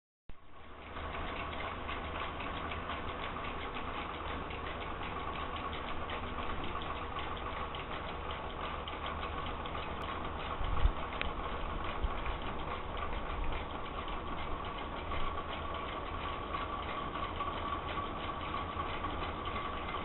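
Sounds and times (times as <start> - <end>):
exhaust fan hum: 0.3 - 20.0
whirligig rapid clicking: 0.6 - 20.0.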